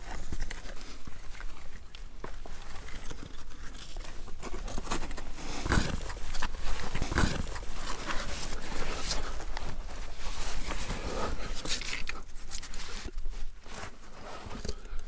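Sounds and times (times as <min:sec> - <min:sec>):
scrapes on rock: 0:02.4 - 0:14.8.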